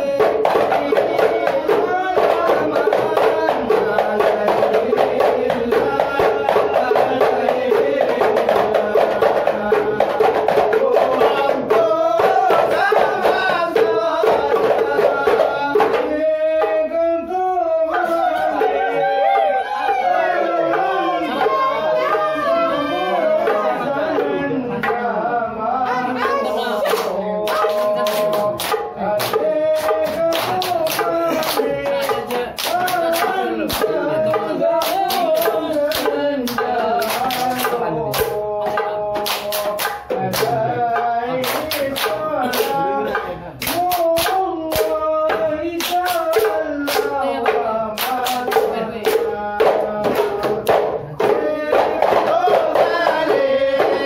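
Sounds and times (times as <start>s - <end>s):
frame drums fast rhythm: 0.0s - 54.0s
group chanting: 0.0s - 54.0s.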